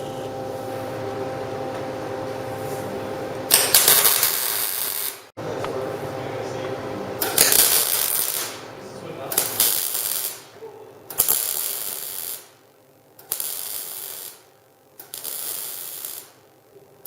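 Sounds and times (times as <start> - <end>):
workshop hum: 0.0 - 17.0
welder arc crackling: 2.5 - 17.0.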